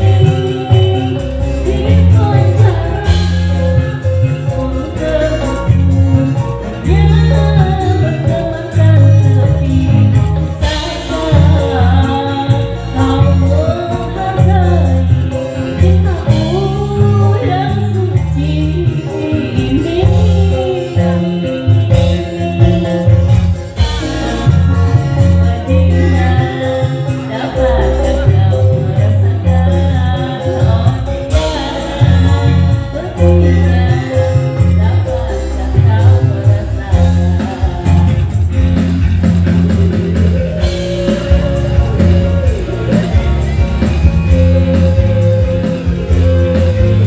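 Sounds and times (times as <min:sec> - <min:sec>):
live band playing: 0:00.0 - 0:47.0
person singing: 0:00.0 - 0:47.0.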